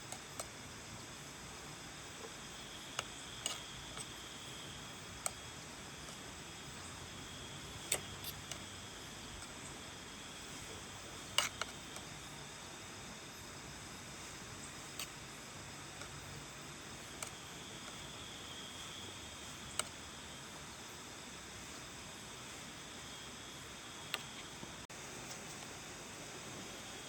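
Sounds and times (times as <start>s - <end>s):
faint rain hiss: 0.0s - 27.0s.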